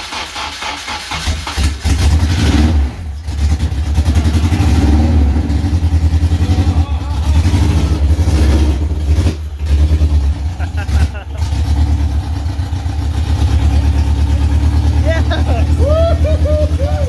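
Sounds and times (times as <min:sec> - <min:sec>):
car engine starting and revving: 0:00.0 - 0:17.0.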